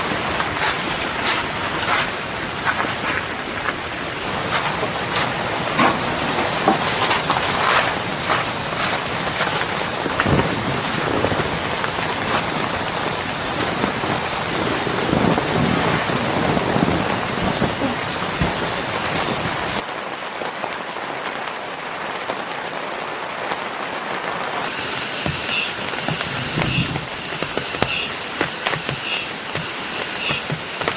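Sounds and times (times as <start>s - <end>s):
raindrops tapping: 0.0s - 19.9s, 24.6s - 30.9s
steady rain hiss: 0.0s - 30.9s.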